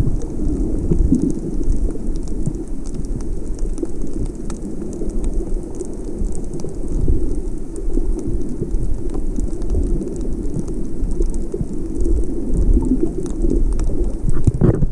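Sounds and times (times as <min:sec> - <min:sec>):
faint crackling: 0:00.0 - 0:14.9
muffled underwater rumble: 0:00.0 - 0:14.9.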